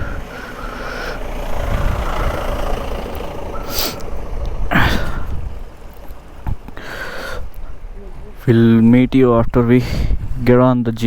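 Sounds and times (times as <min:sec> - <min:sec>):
vehicle engine idling: 0:00.0 - 0:10.2.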